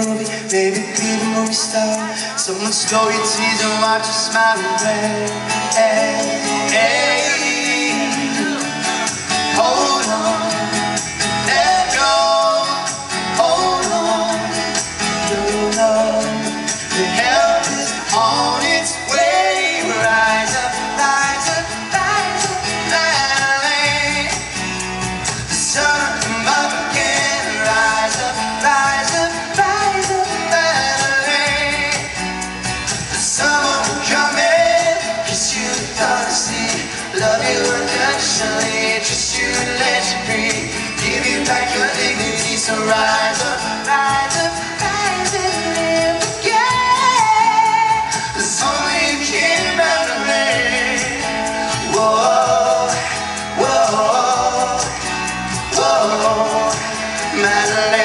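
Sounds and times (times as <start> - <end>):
backing music: 0.0 - 58.0
male vocal group singing: 0.0 - 58.0.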